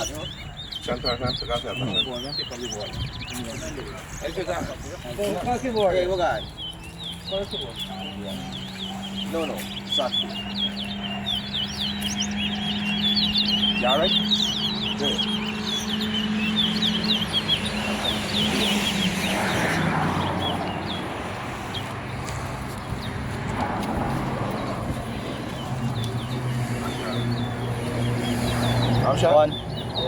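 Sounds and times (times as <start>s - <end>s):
finch chirping: 0.0s - 23.4s, 24.0s - 30.0s.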